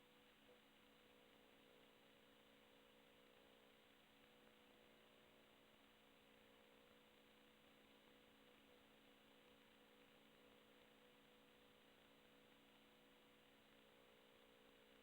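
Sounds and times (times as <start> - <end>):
faint electronic hum and hiss: 0.0 - 15.0.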